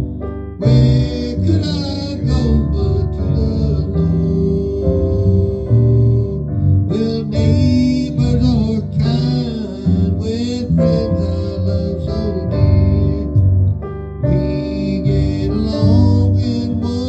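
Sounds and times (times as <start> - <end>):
guitar and keyboard hymn: 0.0 - 17.0
person singing long wavering notes: 0.6 - 13.6, 14.3 - 17.0.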